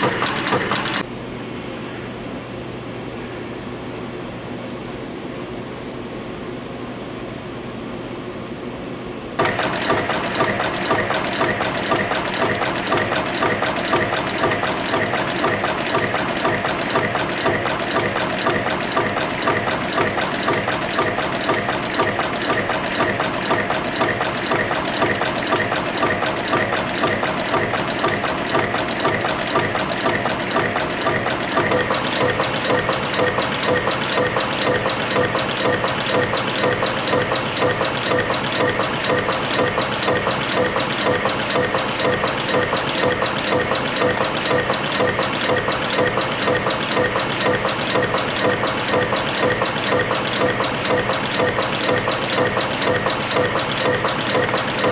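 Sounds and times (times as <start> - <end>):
fast mechanical press strokes: 0.0 - 1.0, 9.4 - 54.9
machine humming: 0.0 - 1.3, 9.4 - 54.9.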